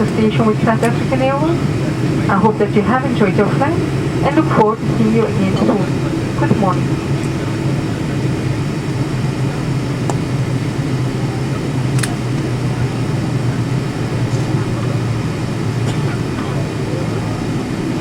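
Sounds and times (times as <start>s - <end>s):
airliner cabin hum: 0.0s - 18.0s.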